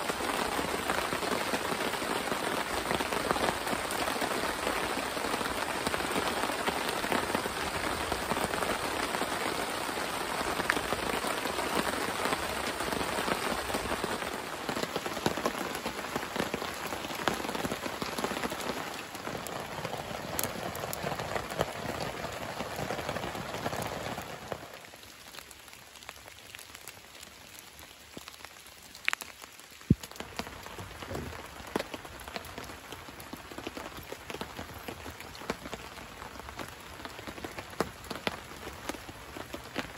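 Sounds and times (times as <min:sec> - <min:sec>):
rain on a tarp: 0:00.0 - 0:39.9.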